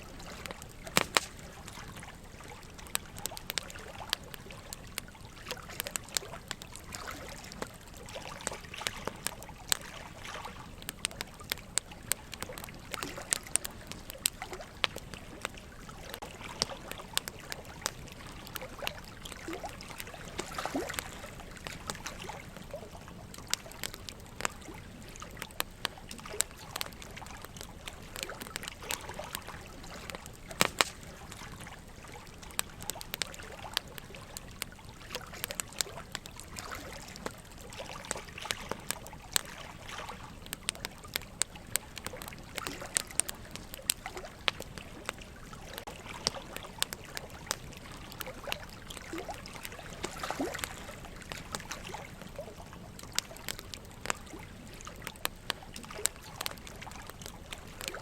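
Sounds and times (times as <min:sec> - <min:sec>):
running water trickling: 0:00.0 - 0:58.0
wood fire crackling: 0:00.0 - 0:58.0.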